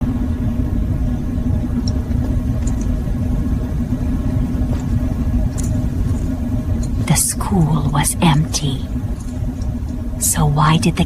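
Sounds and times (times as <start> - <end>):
constant hum: 0.0 - 11.0
low rumble: 0.0 - 11.0.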